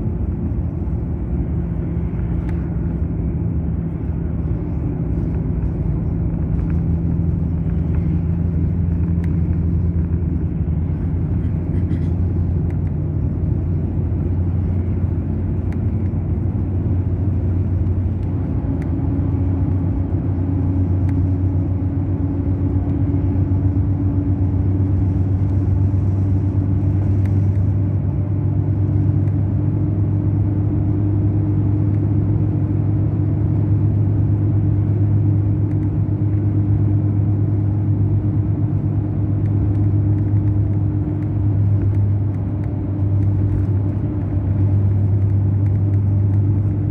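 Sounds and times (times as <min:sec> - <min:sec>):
bus diesel engine drone: 0:00.0 - 0:46.9.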